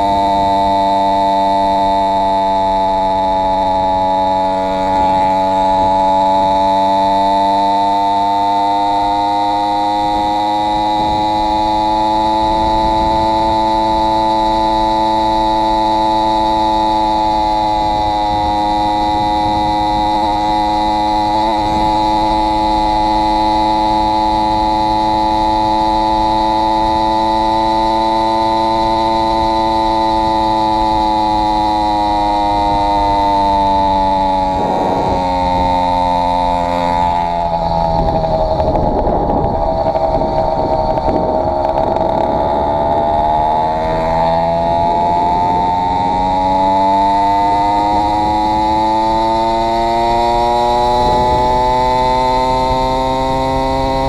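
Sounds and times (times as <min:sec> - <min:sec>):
two-stroke bicycle engine running: 0:00.0 - 0:54.0.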